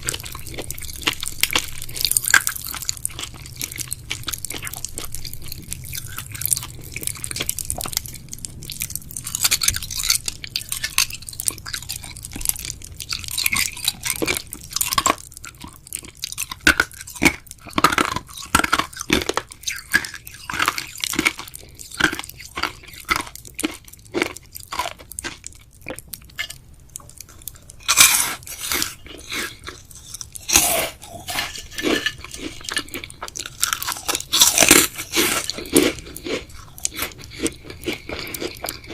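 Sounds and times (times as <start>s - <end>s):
person chewing gummy candies: 0.0s - 38.9s.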